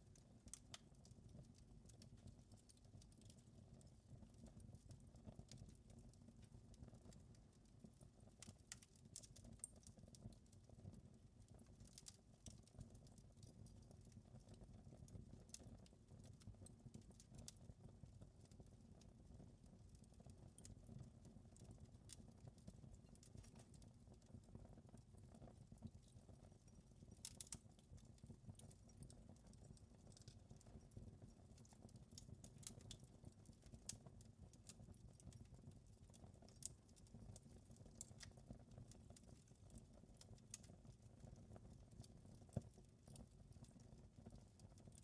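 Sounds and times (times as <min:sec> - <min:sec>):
wood fire crackling: 0:00.2 - 0:45.0.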